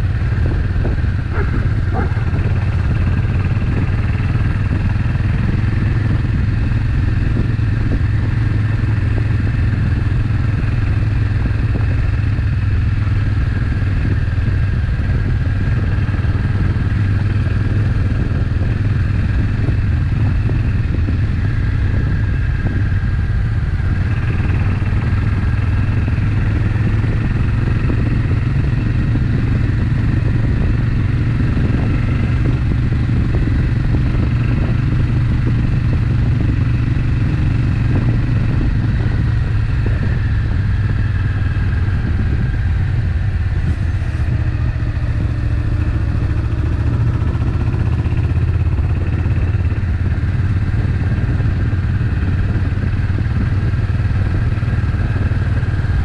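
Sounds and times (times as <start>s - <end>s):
motorcycle engine droning: 0.0s - 56.0s.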